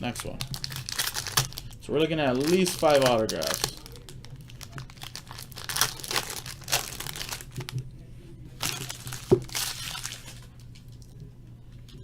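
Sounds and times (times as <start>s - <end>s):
wrapper crinkling and tearing: 0.2s - 7.8s, 8.6s - 11.0s.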